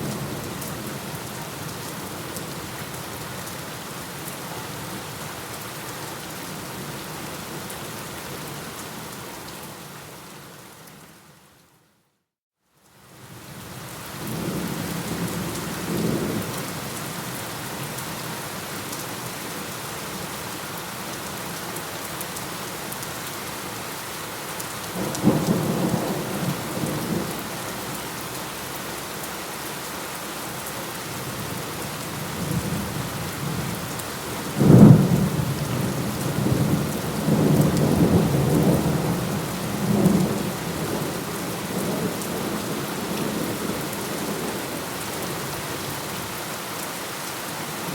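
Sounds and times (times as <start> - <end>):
steady rain falling: 0.0 - 11.8, 12.6 - 47.9.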